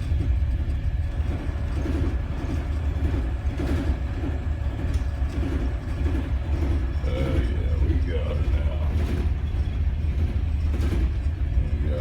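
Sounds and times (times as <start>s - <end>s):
boat diesel engines rumbling: 0.0s - 12.0s.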